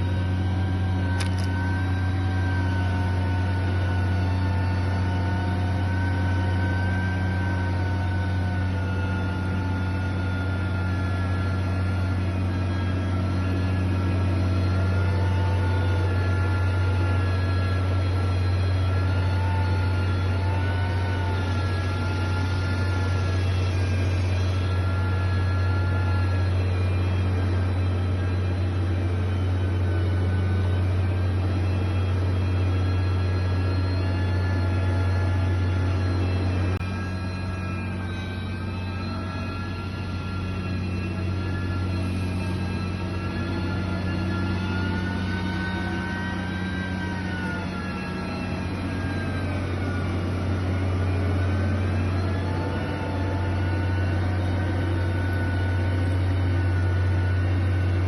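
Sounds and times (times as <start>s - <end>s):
construction machine engine running: 0.0s - 58.0s
faint high whine: 0.0s - 58.0s.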